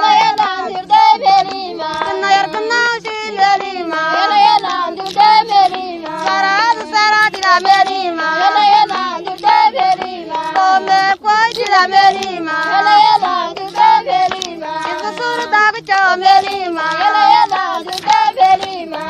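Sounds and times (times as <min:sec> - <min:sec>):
high singing voice: 0:00.0 - 0:19.0.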